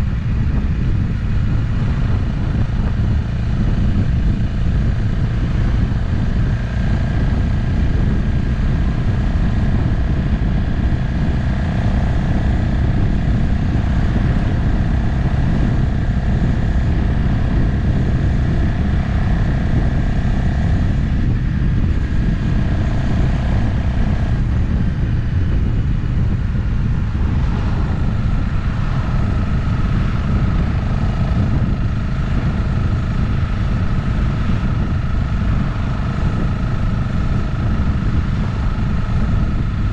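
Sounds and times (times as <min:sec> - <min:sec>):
motorcycle engine hum: 0:00.0 - 0:39.9
wind rush on microphone: 0:00.0 - 0:39.9.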